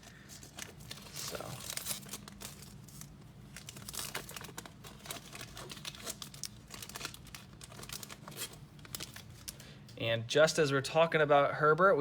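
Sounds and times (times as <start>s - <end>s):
cellophane wrapper crinkling and tearing: 0.0s - 9.7s.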